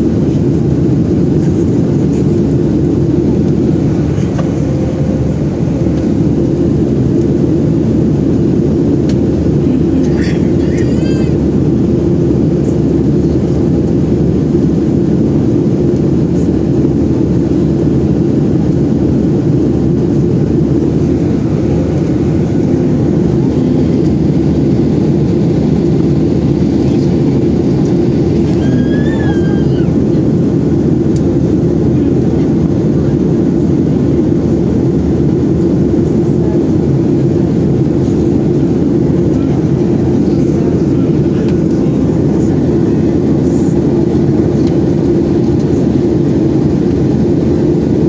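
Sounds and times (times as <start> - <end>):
airliner cabin engine roar: 0.0 - 48.0.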